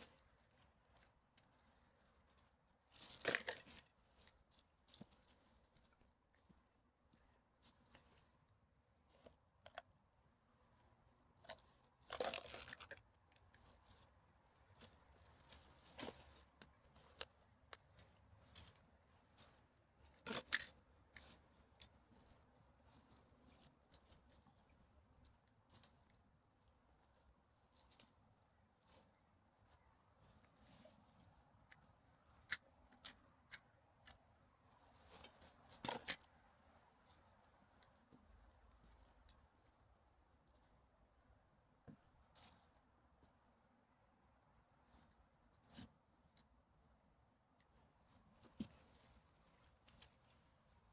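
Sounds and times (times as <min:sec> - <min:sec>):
litter rustling and crinkling: 0:00.0 - 0:40.8, 0:41.8 - 0:43.4, 0:44.8 - 0:46.5, 0:47.7 - 0:50.9.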